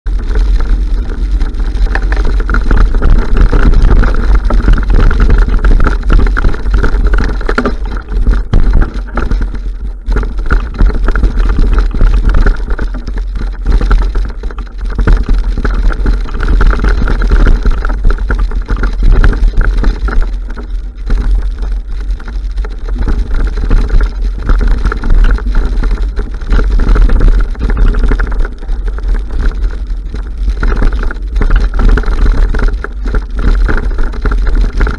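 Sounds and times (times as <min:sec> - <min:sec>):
bike rattling over gravel: 0:00.1 - 0:34.9
wind buffeting microphone: 0:00.1 - 0:34.9.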